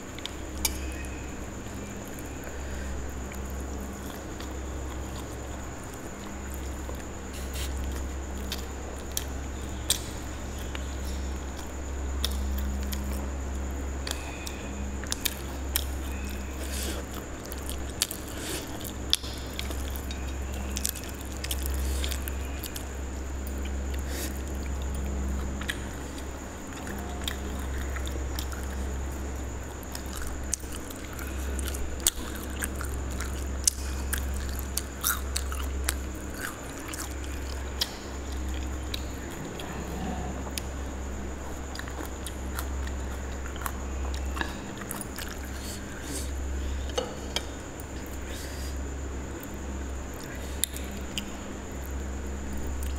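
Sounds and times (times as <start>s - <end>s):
low hum: 0.0s - 52.9s
chewing with wet mouth clicks: 3.2s - 13.4s, 14.0s - 52.9s.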